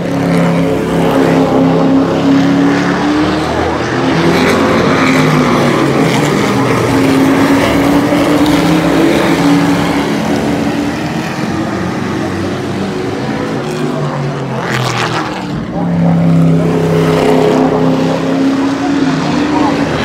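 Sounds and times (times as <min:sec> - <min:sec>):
racing engines droning: 0:00.0 - 0:20.0.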